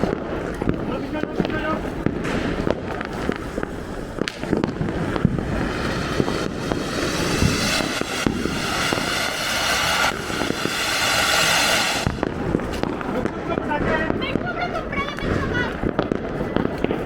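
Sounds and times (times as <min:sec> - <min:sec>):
fireworks rushing hiss: 0:00.0 - 0:15.9
firecrackers popping and cracking: 0:00.0 - 0:17.0.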